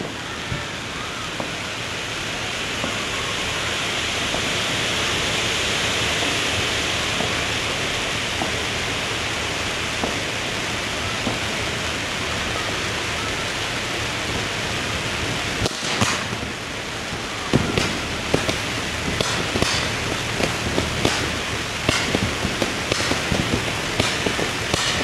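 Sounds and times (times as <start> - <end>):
fireworks cracking: 0.0 - 25.0
fireworks hissing: 0.0 - 25.0.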